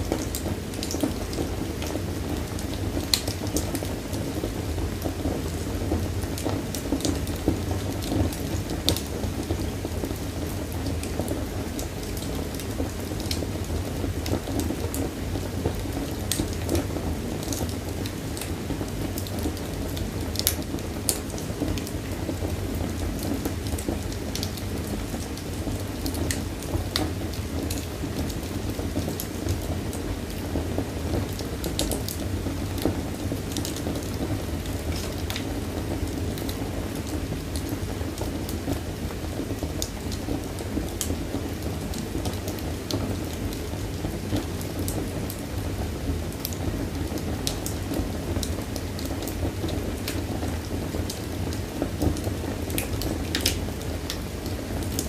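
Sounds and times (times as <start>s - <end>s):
fire popping and snapping: 0.0s - 55.0s
low rumble of burning: 0.0s - 55.0s.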